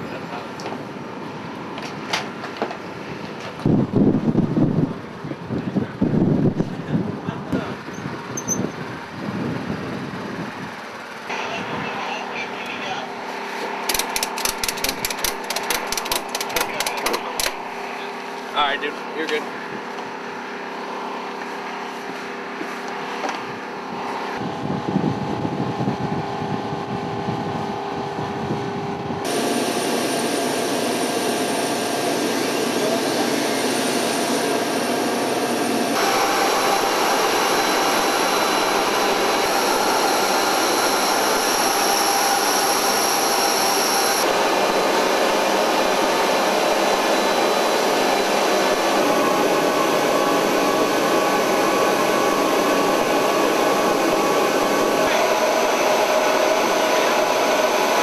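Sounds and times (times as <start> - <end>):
turboprop engines whining: 0.0 - 58.0.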